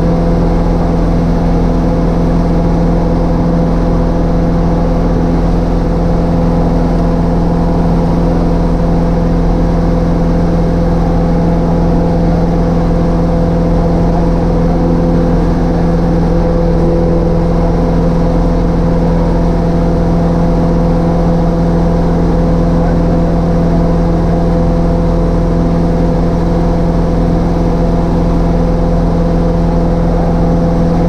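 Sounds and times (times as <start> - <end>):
light aircraft engine and propeller droning: 0.0 - 31.0.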